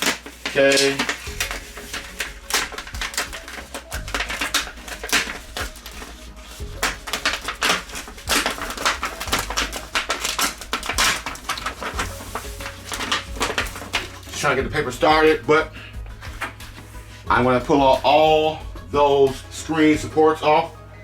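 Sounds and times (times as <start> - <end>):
paper and tape crackling: 0.0 - 18.3.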